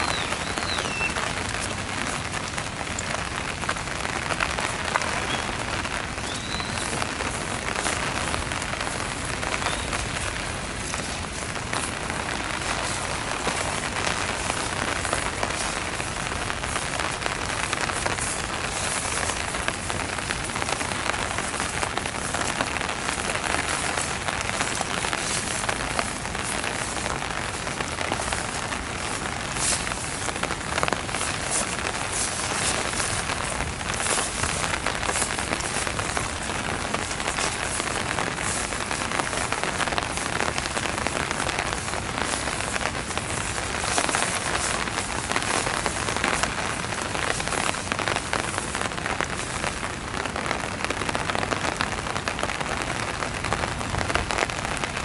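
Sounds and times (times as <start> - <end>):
heavy rain downpour: 0.0 - 55.0.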